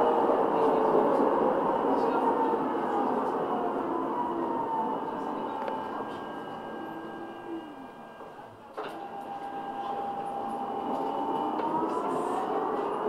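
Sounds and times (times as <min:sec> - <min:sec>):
tram motor whine rising: 0:00.0 - 0:13.0.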